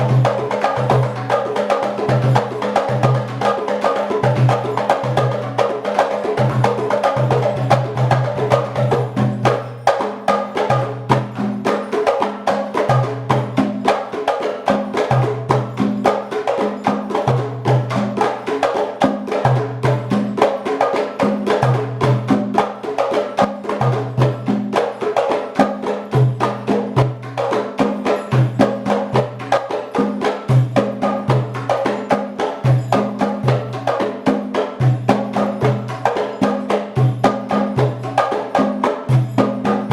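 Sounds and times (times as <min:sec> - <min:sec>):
percussion ensemble playing: 0:00.0 - 0:39.9.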